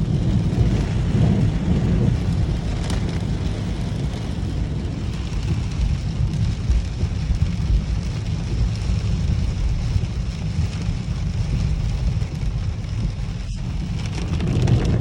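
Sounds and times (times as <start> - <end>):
deep rumble: 0.0 - 15.0
heavy rain: 0.0 - 15.0.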